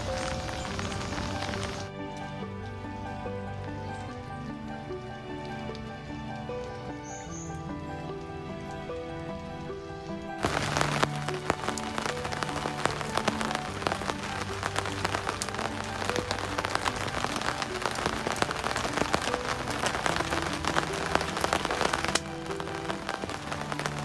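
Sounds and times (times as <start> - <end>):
background music with held notes: 0.0 - 24.0
rain pattering: 0.0 - 24.0.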